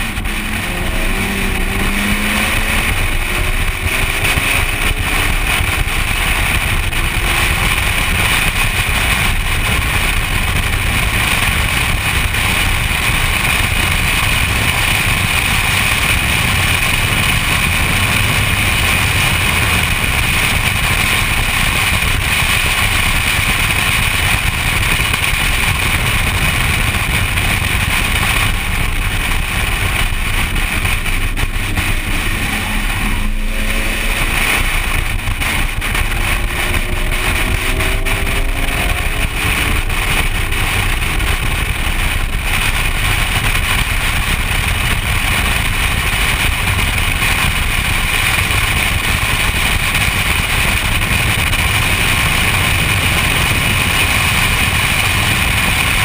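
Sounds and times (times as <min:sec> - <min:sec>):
car engine running hard: 0:00.0 - 0:56.0
wind and road noise: 0:00.0 - 0:56.0.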